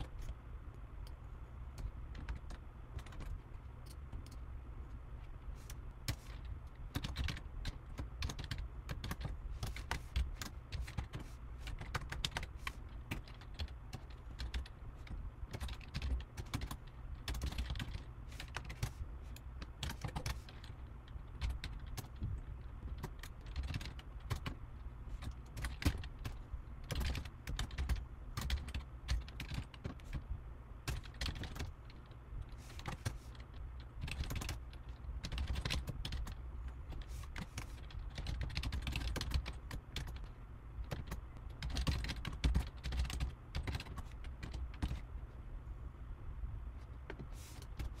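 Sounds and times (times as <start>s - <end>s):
low steady hum: 0.0s - 48.0s
keyboard typing: 1.7s - 4.4s, 5.6s - 30.2s, 30.8s - 45.0s.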